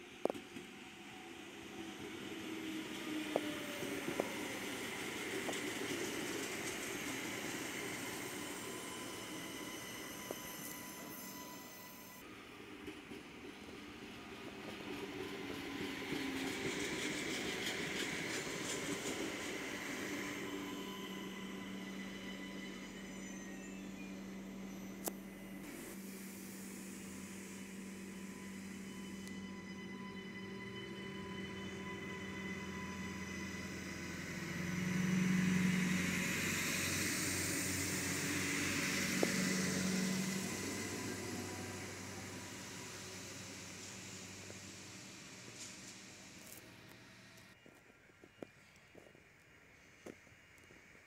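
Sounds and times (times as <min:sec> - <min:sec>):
diesel railcar engine drone: 0:00.0 - 0:51.0
train wheel noise: 0:00.0 - 0:51.0.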